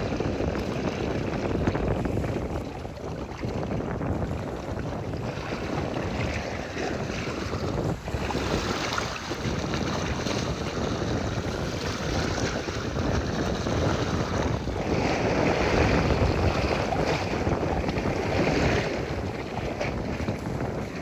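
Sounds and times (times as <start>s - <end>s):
sea waves: 0.0s - 21.0s
wind buffeting microphone: 0.0s - 21.0s.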